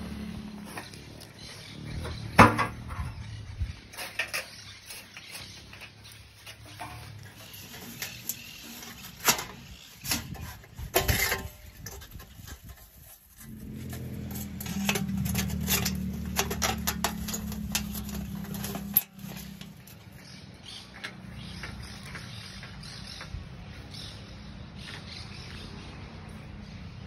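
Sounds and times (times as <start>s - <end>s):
metal plates clinking and scraping: 0.0s - 22.4s.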